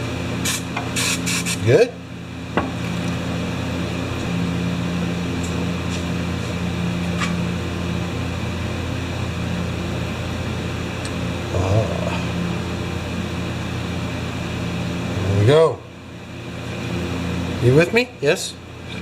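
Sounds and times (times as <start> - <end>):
mechanical hum with low drone: 0.0 - 19.0.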